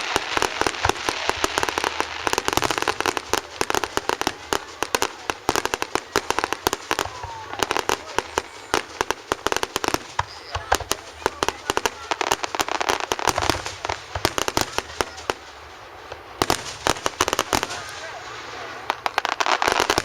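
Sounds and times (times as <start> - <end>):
crackling hiss: 0.0 - 20.0
fireworks cracks and bangs: 0.0 - 20.0.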